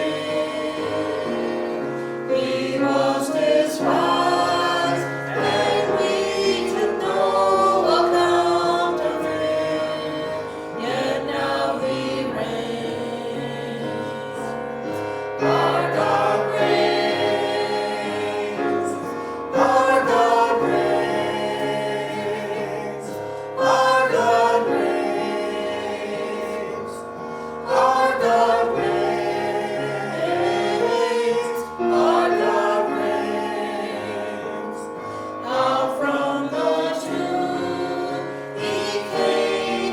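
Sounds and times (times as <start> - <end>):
group singing a praise song: 0.0 - 39.9.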